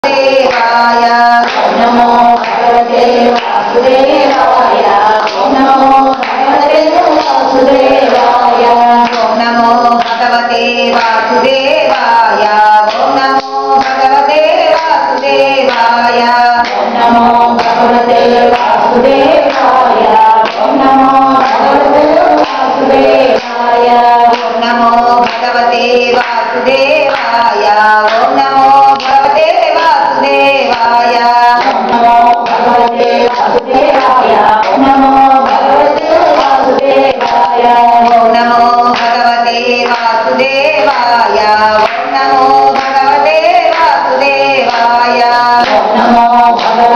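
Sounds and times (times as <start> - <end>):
group singing a chant: 0.0 - 46.9
hand clapping: 0.0 - 46.9.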